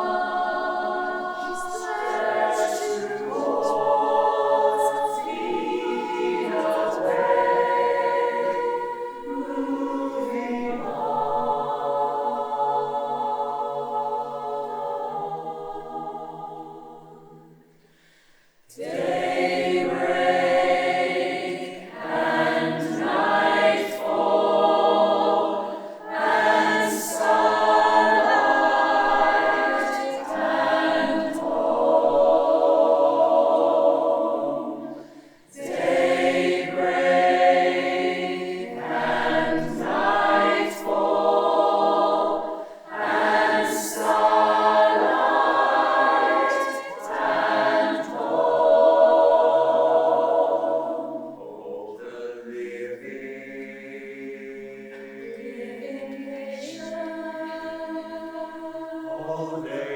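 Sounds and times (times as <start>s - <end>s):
choir singing in chords: 0.0s - 59.9s.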